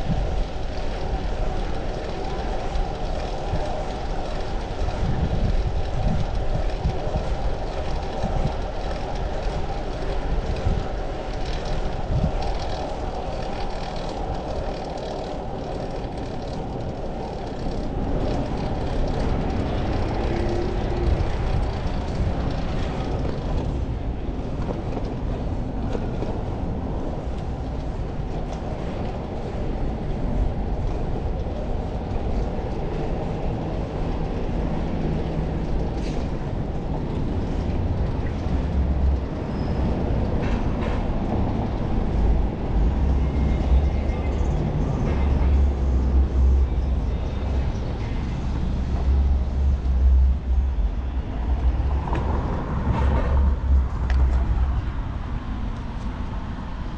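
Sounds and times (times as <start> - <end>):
bicycle tyre and road noise: 0.0 - 56.9
wind buffeting microphone: 0.0 - 56.9.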